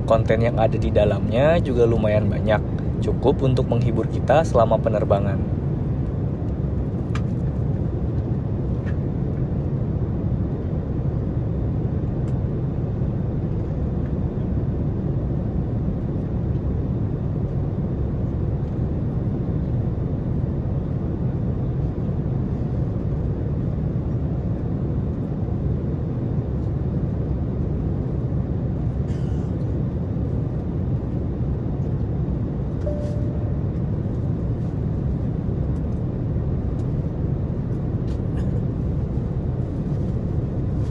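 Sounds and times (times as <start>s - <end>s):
airplane cabin engine roar: 0.0s - 40.9s.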